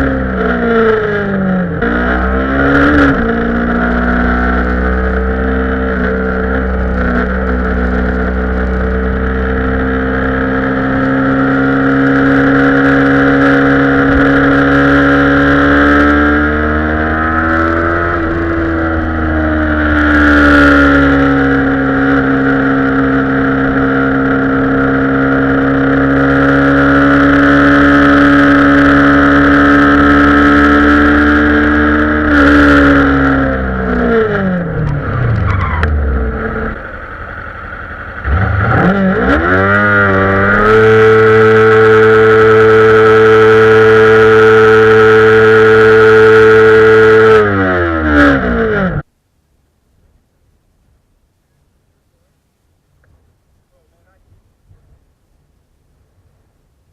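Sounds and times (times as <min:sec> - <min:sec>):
motorcycle engine revving: 0:00.0 - 0:49.1.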